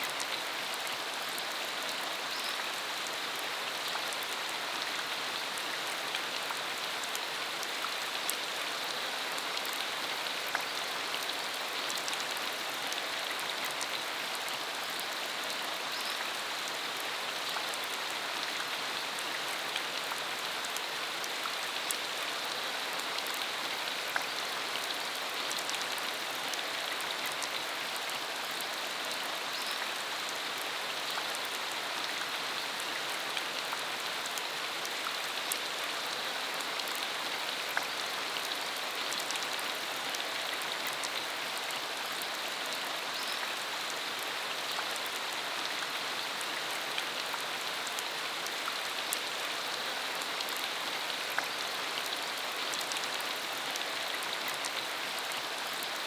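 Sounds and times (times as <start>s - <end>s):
rain falling on dirt road: 0.0s - 56.0s.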